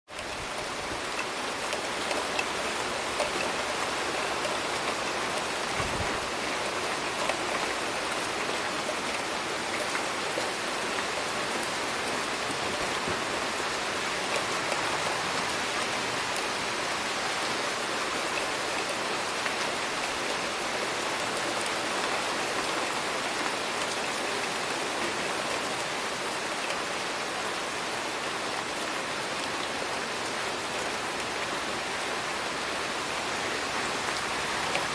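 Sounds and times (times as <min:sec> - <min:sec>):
rain drops ticking: 0:00.1 - 0:34.9
steady rain hiss: 0:00.1 - 0:34.9.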